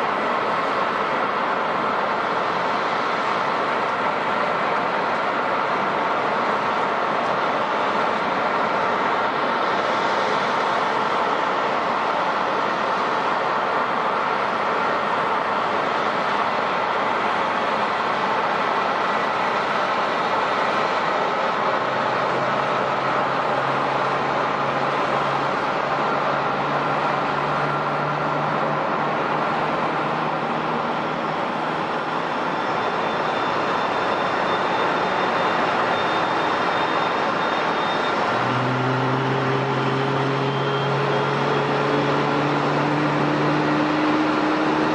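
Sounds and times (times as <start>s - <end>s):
airliner engines rushing: 0.0s - 44.9s.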